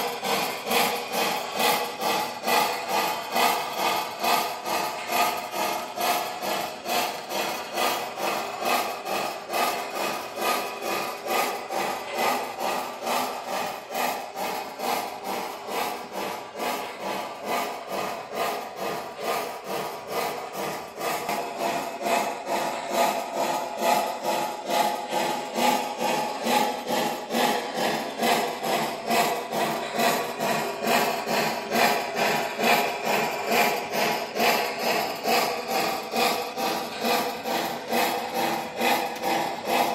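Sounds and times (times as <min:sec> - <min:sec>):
model steam locomotive chuffing: 0:00.0 - 0:39.9
steady whir: 0:00.0 - 0:39.9.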